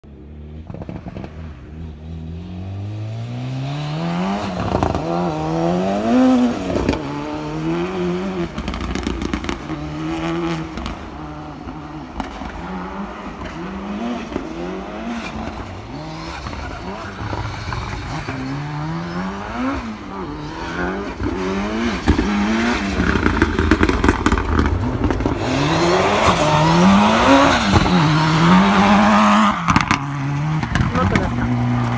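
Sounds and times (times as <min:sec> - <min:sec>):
gravel crackling under tyres: 0:00.0 - 0:31.9
car engine revving: 0:00.2 - 0:31.9.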